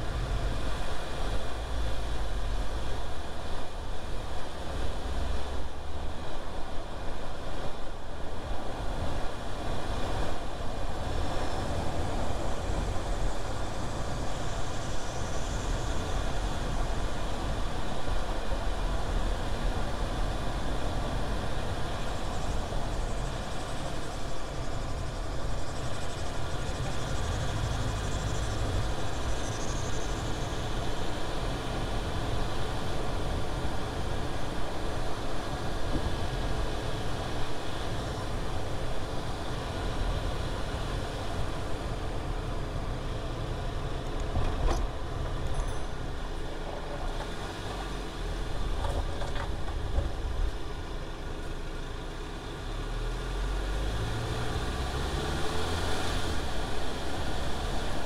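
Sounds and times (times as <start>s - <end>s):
car tyre and engine noise: 0.0s - 58.0s.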